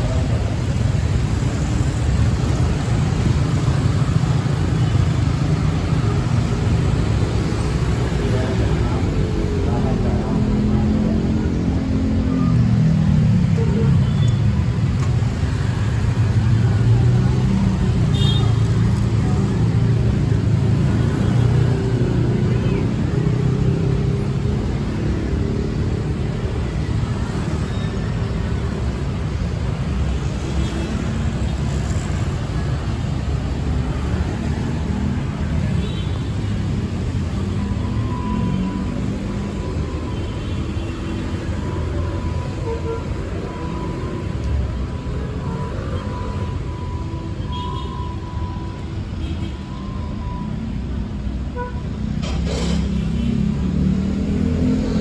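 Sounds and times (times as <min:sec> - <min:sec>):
street traffic rumble: 0:00.0 - 0:55.0.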